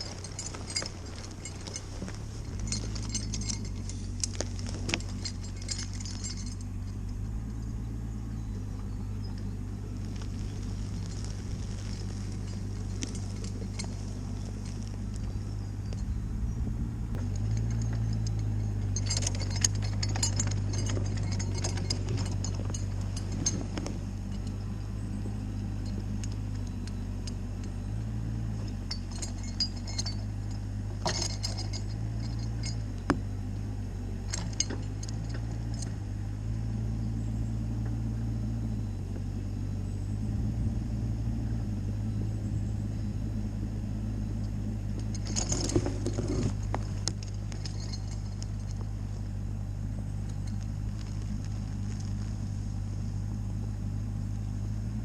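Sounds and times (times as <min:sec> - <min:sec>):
metallic clinking of chains: 0:00.0 - 0:33.5, 0:34.2 - 0:37.4, 0:44.3 - 0:53.9
mini excavator engine under load: 0:00.0 - 0:55.0.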